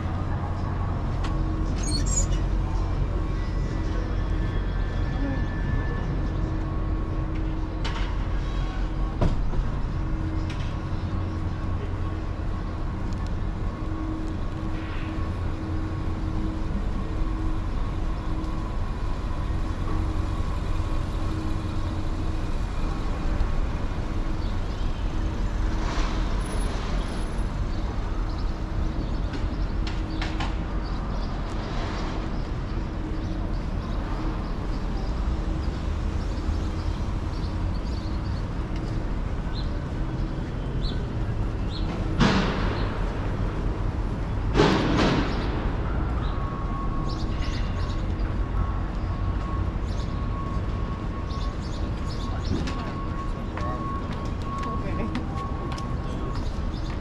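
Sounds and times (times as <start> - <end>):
vehicle engines rumbling: 0.0 - 57.0.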